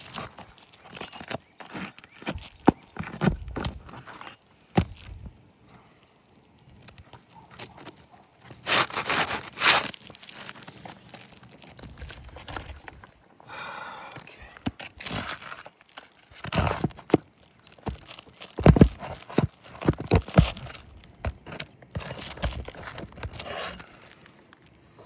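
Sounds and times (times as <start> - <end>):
metal tool scraping shingle: 0.0 - 5.3, 6.9 - 13.1, 14.6 - 24.8.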